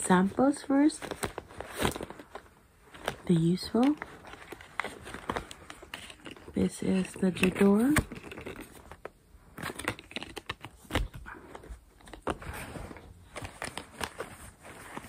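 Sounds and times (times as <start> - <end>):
pouch and paper rustling: 0.0 - 15.0.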